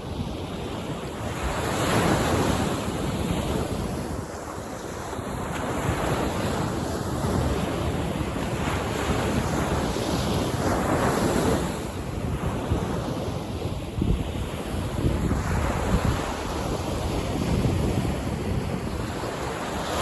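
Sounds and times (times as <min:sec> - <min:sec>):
wind buffeting microphone: 0:00.0 - 0:20.0
sea waves breaking on beach: 0:00.1 - 0:20.0.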